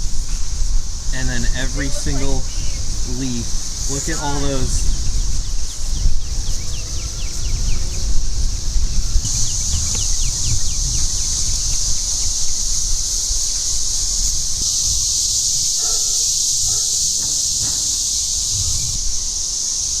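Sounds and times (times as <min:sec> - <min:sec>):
cicadas singing: 0:00.0 - 0:20.0.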